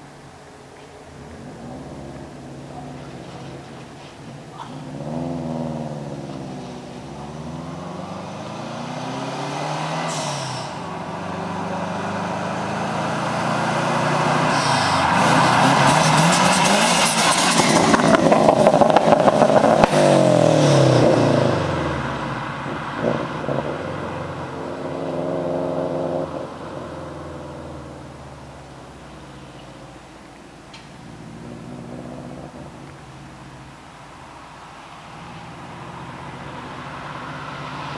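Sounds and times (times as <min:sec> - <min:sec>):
exhaust crackling: 0:00.0 - 0:37.9
car engine revving: 0:01.0 - 0:34.3, 0:35.0 - 0:37.9.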